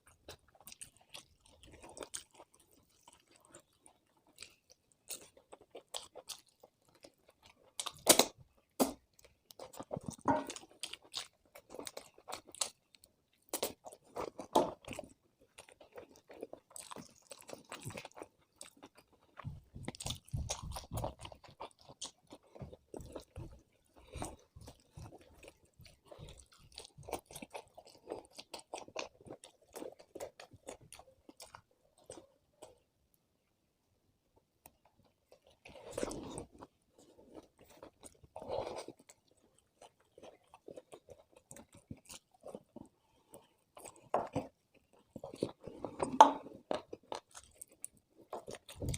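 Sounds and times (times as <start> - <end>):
person chewing and crunching: 0.0 - 32.9, 34.6 - 48.9.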